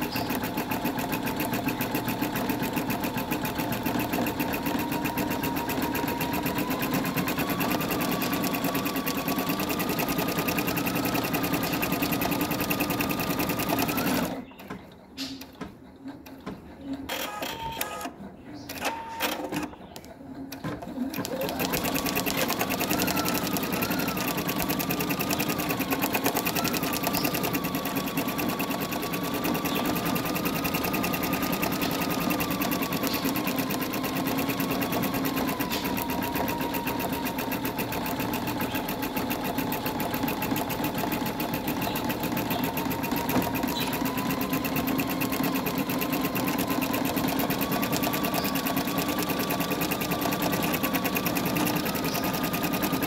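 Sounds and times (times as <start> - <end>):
embroidery machine stitching: 0.0 - 53.0.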